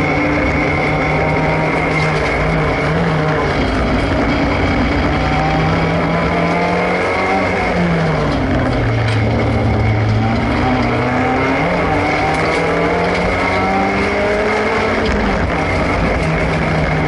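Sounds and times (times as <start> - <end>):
racing car engine revving: 0.0 - 17.0
steady high whine: 0.0 - 17.0.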